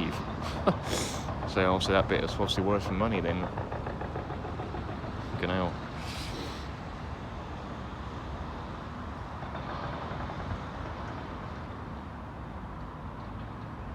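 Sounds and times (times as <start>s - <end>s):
distant engine and traffic rumble: 0.0s - 13.9s.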